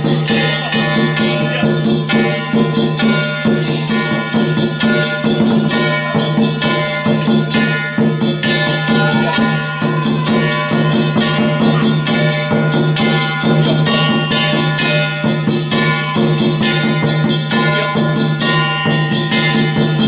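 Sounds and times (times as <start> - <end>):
fast percussion beat: 0.0 - 20.0.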